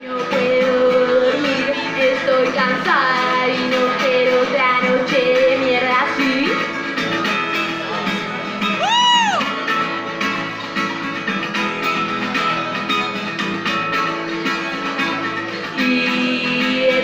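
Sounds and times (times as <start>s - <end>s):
guitar playing: 0.0s - 17.0s.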